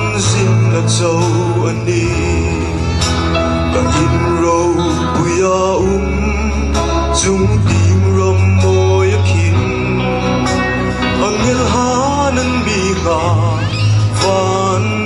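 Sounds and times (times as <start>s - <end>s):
bass guitar: 0.0s - 15.0s
live band playing: 0.0s - 15.0s.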